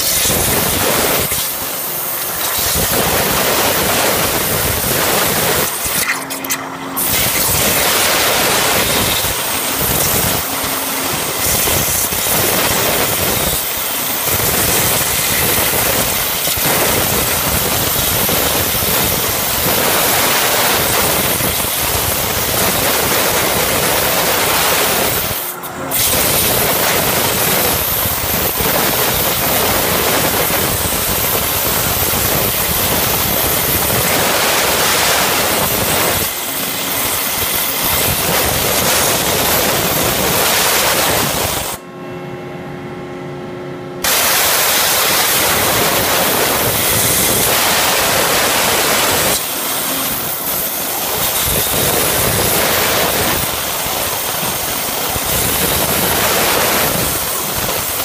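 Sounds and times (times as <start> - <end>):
waterjet hissing loudly: 0.0 - 41.8, 44.0 - 58.0.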